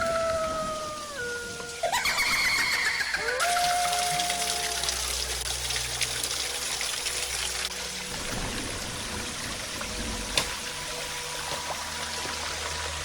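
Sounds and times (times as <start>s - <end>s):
water trickling: 0.0s - 13.0s.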